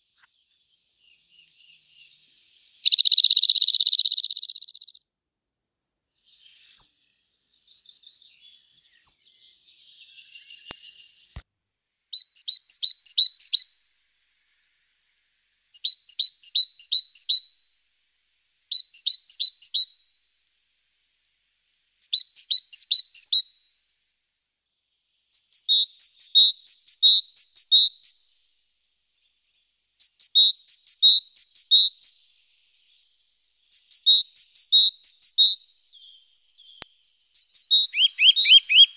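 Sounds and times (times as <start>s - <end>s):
faint high chirps: 0.0s - 5.0s, 6.2s - 11.4s, 12.1s - 17.9s, 18.7s - 20.5s, 21.9s - 23.9s, 24.5s - 38.9s
songbird singing: 0.0s - 5.1s, 6.2s - 11.4s, 12.1s - 38.9s.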